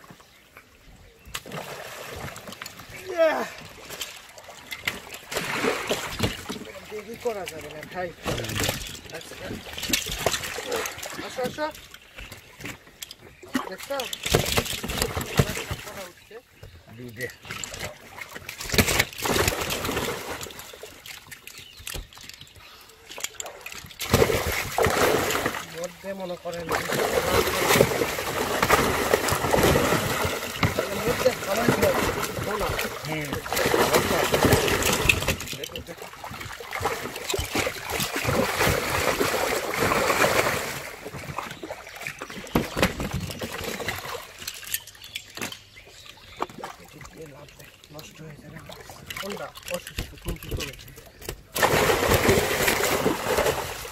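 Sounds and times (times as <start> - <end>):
water splashing and sloshing: 0.0 - 53.9
wet rustling of net and fish: 1.4 - 16.8, 17.4 - 53.9.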